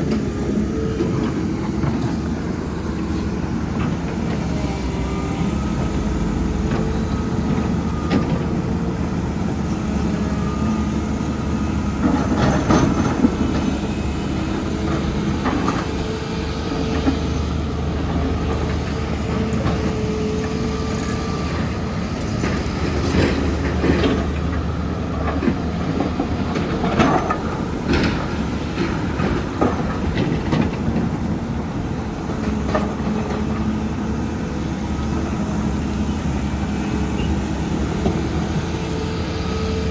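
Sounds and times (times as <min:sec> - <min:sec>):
hydraulic whine: 0:00.0 - 0:31.4, 0:32.4 - 0:39.9
excavator diesel engine: 0:00.0 - 0:39.9.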